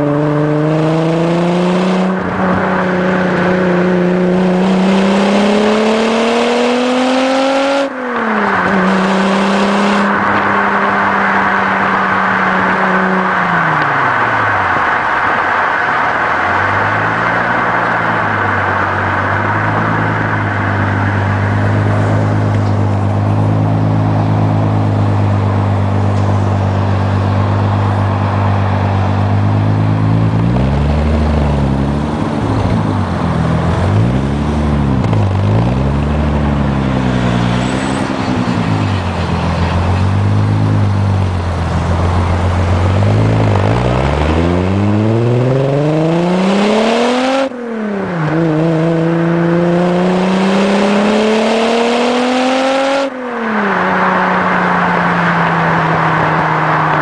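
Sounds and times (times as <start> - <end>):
car engine revving and accelerating: 0.0 - 57.0.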